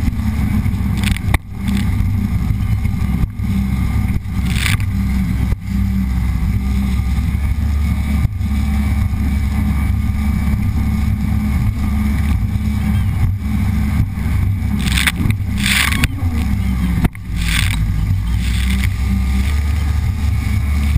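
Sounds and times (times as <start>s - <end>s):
jet ski engine running: 0.0s - 20.9s.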